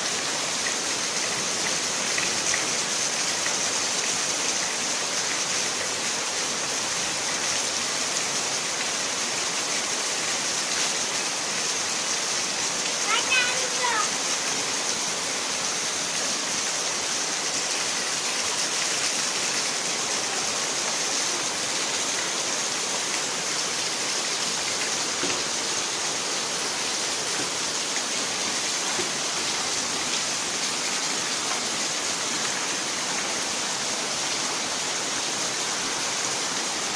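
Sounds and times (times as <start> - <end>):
heavy rain hiss: 0.0 - 36.9.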